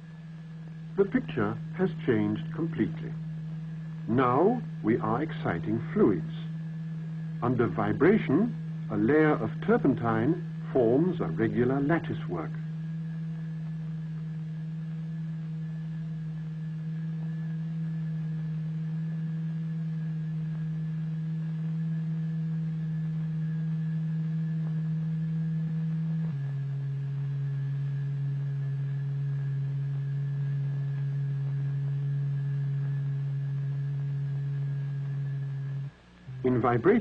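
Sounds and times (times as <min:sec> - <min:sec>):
low pure test tone: 0:00.0 - 0:37.0.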